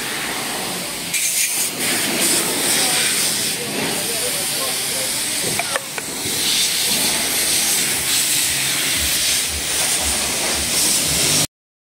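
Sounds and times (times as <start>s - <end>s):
pressure washer spraying water: 0.0s - 11.5s.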